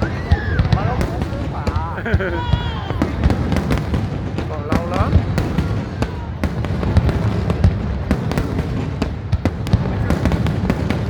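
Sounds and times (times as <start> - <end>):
fireworks cracks and bangs: 0.0 - 11.0
rumble of distant fireworks: 0.0 - 11.0.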